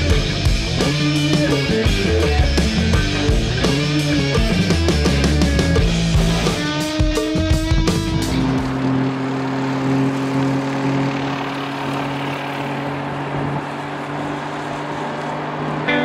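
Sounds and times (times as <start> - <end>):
low engine drone: 0.0 - 16.0
road and tyre noise: 0.0 - 16.0.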